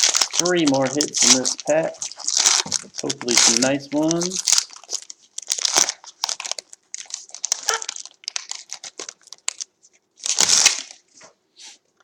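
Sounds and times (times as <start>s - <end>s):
wrapper crinkling and tearing: 0.0s - 11.3s.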